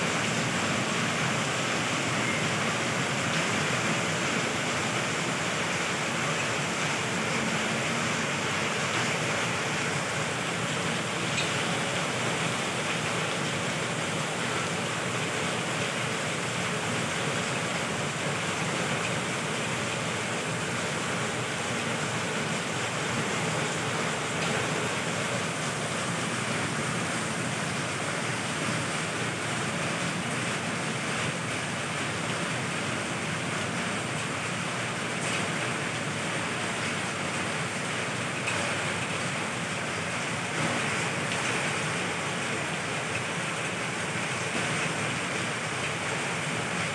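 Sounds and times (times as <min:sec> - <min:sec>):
heavy rain on trees and roofs: 0:00.0 - 0:46.9.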